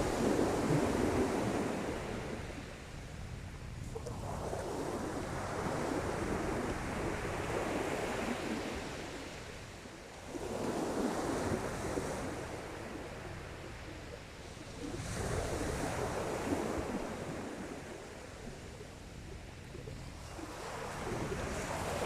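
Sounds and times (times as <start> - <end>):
sea waves washing onto beach: 0.0 - 22.0
wind buffeting microphone: 0.0 - 22.0.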